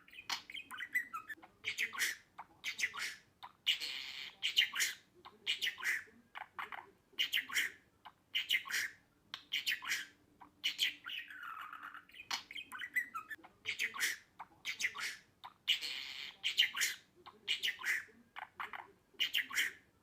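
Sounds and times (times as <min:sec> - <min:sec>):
budgerigar chattering: 0:00.0 - 0:19.9.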